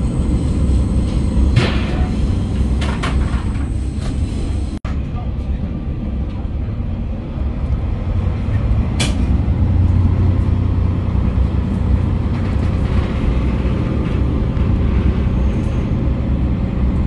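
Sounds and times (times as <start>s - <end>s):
railcar rumble on rails: 0.0s - 17.0s.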